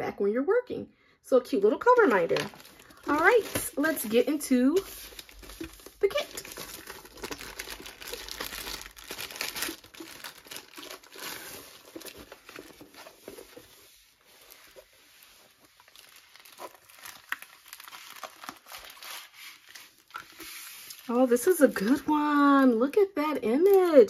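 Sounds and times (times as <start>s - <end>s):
plastic sleeve crinkling: 1.6s - 24.0s.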